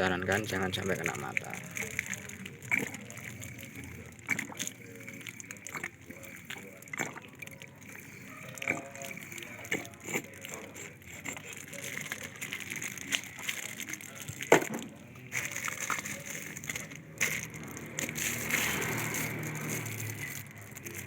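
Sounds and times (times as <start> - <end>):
small clicks and knocks of bottles: 0.0 - 21.0.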